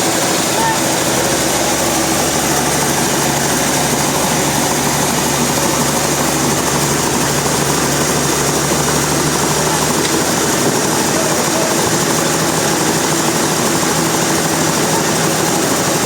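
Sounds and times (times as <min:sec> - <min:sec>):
sawmill machinery drone: 0:00.0 - 0:16.0.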